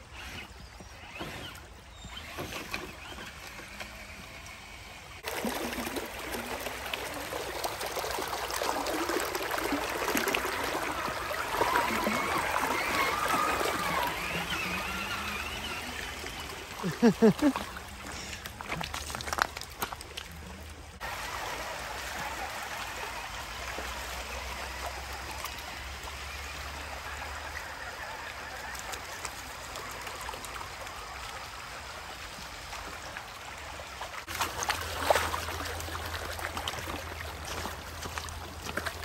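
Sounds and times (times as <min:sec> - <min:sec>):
creek water over rocks: 0:00.0 - 0:39.0.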